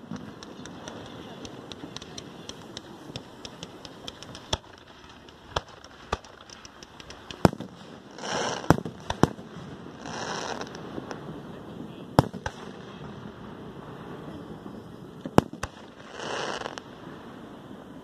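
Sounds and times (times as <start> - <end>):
crackling firework pops: 0.0 - 11.3, 12.2 - 13.2, 15.2 - 17.4
firework bangs: 0.0 - 18.0
firework hissing: 0.0 - 18.0.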